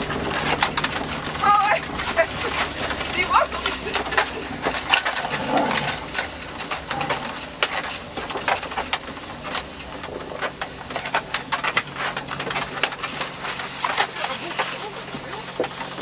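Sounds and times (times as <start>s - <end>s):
car engine humming low: 0.0s - 16.0s
snow crunching under tyres: 0.0s - 16.0s.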